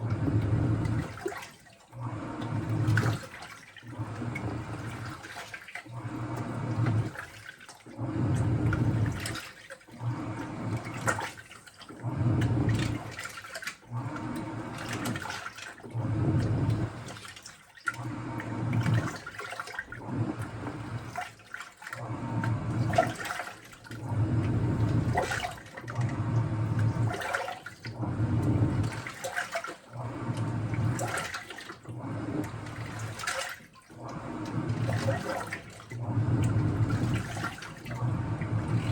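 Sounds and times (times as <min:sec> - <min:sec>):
washing machine running: 0:00.0 - 0:38.9
water sloshing in drum: 0:00.0 - 0:38.9.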